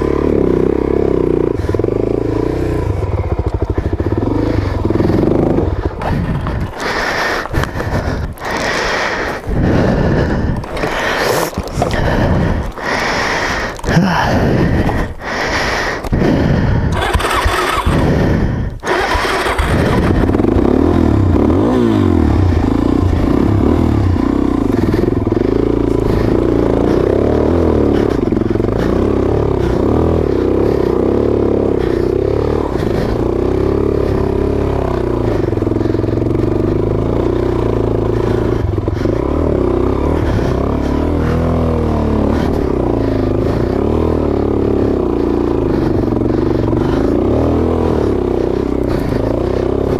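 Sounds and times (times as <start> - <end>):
motorcycle engine revving uphill: 0.0 - 49.9.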